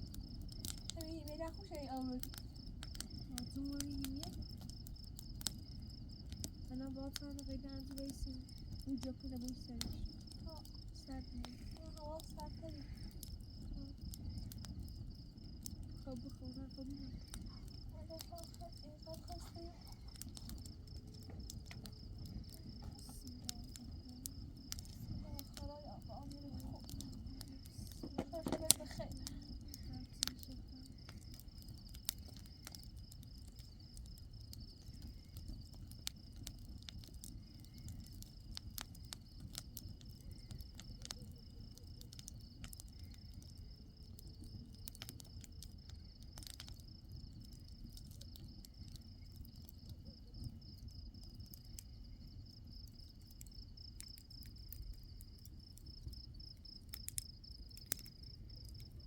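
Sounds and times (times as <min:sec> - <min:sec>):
crickets chirping: 0:00.0 - 0:59.0
faint clicks: 0:00.1 - 0:05.7, 0:06.3 - 0:52.0, 0:52.8 - 0:58.9.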